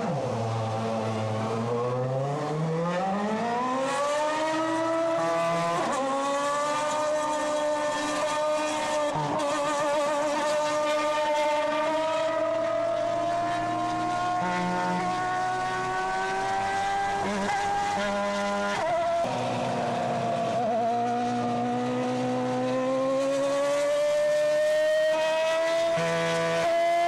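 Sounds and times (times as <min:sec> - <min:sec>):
racing car engine accelerating: 0:00.0 - 0:27.0.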